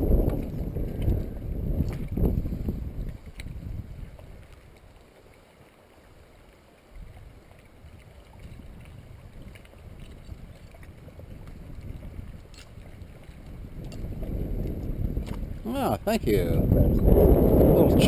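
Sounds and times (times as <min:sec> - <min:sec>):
wind buffeting microphone: 0:00.0 - 0:05.0, 0:06.9 - 0:18.0
water lapping against boat: 0:00.0 - 0:18.0.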